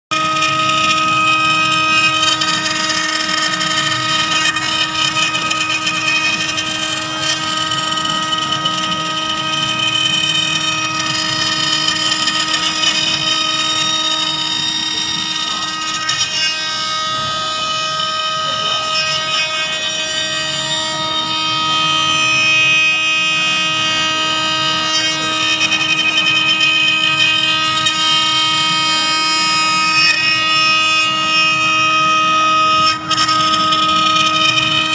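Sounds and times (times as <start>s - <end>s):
cnc router spindle whine: 0.1s - 34.9s.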